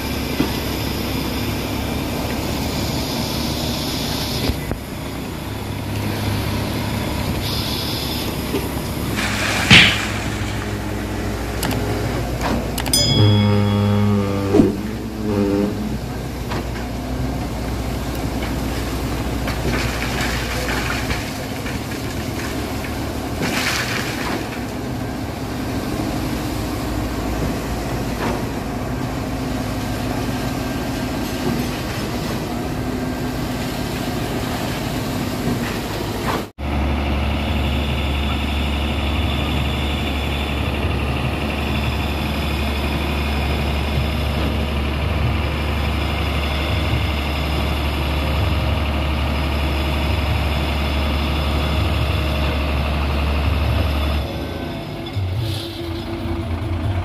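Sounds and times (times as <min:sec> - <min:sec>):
concrete pump truck running: 0:00.0 - 0:57.0
diesel truck engine drone: 0:00.0 - 0:57.0.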